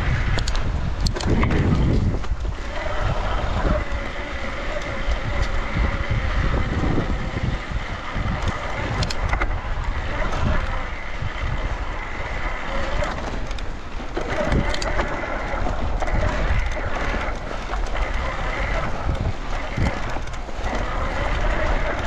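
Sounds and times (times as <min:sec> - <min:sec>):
bike clicks and rattles: 0:00.0 - 0:22.0
electric motor whine: 0:00.0 - 0:22.0
tyres rumbling on dirt: 0:00.0 - 0:22.0
wind buffeting camera: 0:00.0 - 0:22.0.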